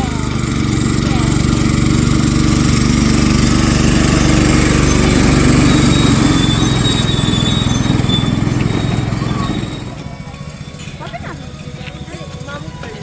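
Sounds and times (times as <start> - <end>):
small locomotive engine running: 0.0 - 13.0.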